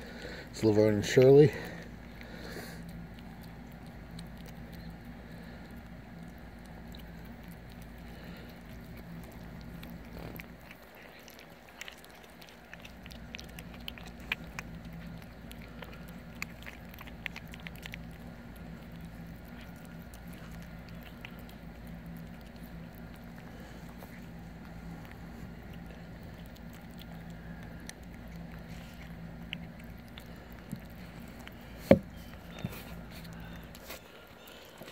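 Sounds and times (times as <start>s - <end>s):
cats chewing and licking: 0.0s - 34.9s
steady low hum: 0.0s - 34.9s.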